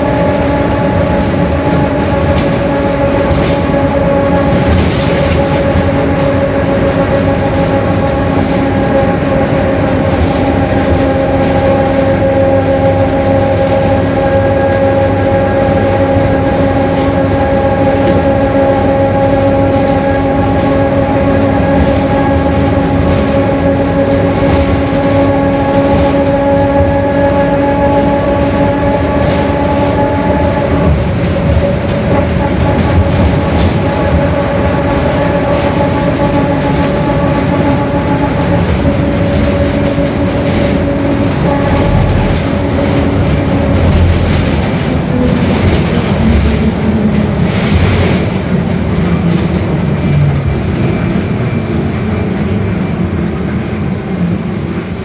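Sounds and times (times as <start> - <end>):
differential drone: 0.0 - 48.4
bus drivetrain rumble: 0.0 - 55.0.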